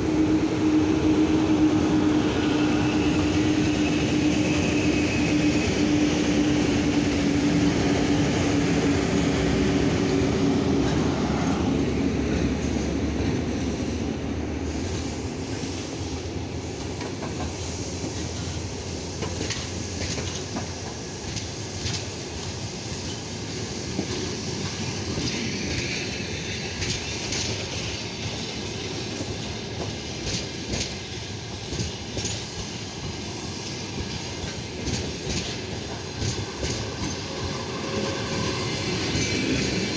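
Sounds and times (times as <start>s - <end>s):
electric locomotive hum: 0.0s - 39.9s
train wheels rumbling on rails: 0.0s - 39.9s.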